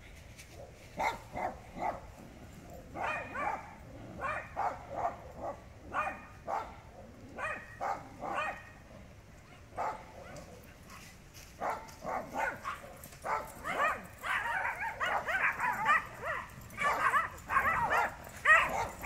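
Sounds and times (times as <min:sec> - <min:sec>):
dog barking: 0:00.6 - 0:02.1, 0:02.8 - 0:19.0.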